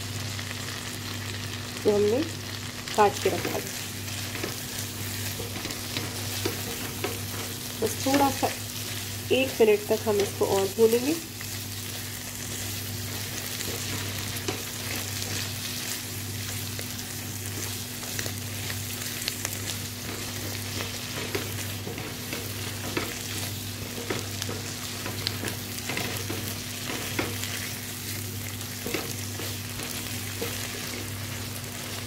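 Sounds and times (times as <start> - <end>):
liver frying in oil: 0.0 - 32.0.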